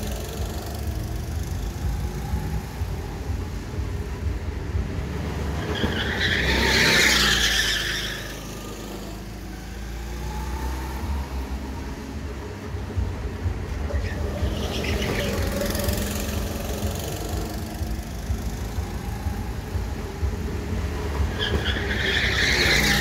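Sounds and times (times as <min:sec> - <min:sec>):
tyres skidding with screech: 0:00.0 - 0:03.2, 0:04.8 - 0:12.7, 0:13.5 - 0:23.0
go-kart engine: 0:00.0 - 0:23.0.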